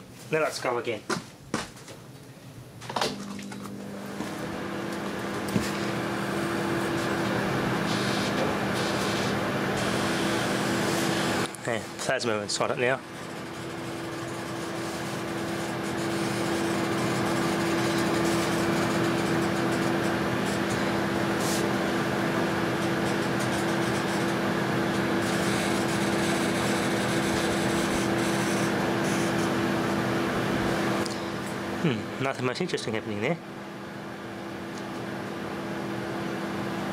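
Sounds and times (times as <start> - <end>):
microwave oven hum: 1.4 - 36.9.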